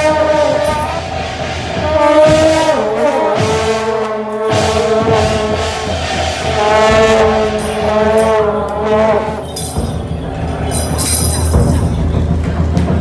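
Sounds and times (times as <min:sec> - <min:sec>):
wind instruments holding long notes: 0:00.0 - 0:13.0.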